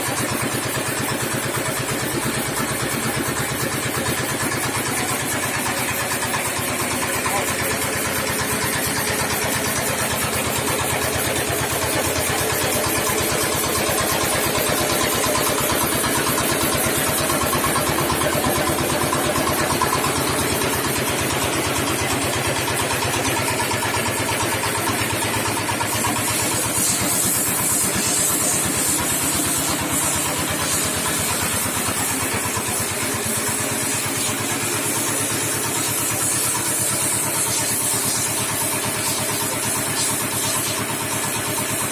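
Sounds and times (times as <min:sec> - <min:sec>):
concrete mixer engine running: 0:00.0 - 0:41.9.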